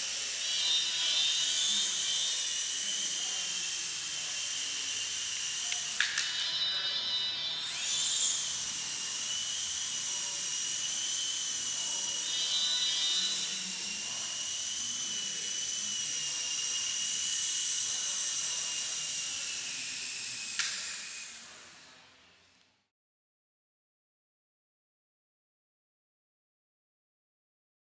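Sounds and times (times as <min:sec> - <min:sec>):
toy helicopter rotor whine: 0:00.0 - 0:22.6.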